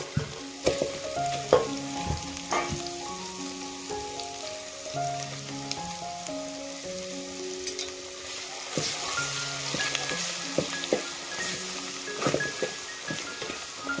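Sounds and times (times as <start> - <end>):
soft instrumental music: 0.0 - 14.0
spice paste sizzling in oil: 0.0 - 14.0.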